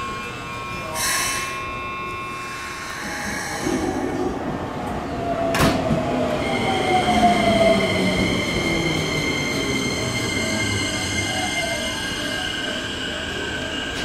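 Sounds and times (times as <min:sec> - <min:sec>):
electric train whine: 0:00.0 - 0:14.0.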